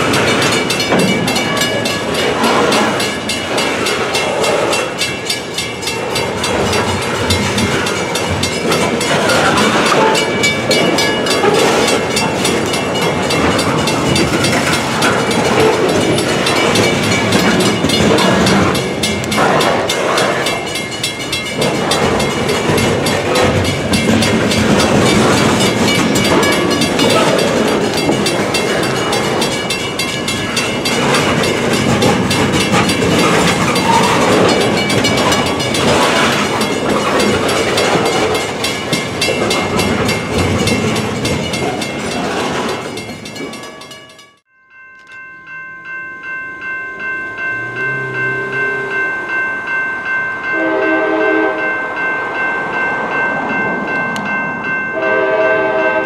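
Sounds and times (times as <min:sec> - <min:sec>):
clatter over rail joints: 0:00.0 - 0:45.1
train wheels rumbling on rails: 0:00.0 - 0:45.2.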